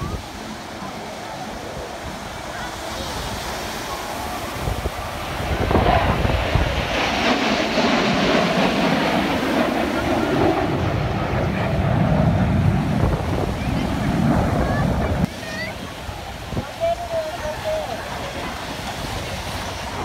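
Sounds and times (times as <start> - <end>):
jet engines flying overhead: 0.0 - 20.0.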